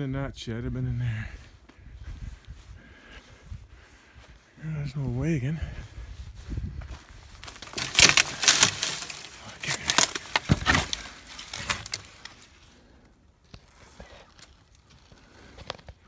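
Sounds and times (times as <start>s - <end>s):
footsteps crunching dry grass: 0.8s - 16.0s.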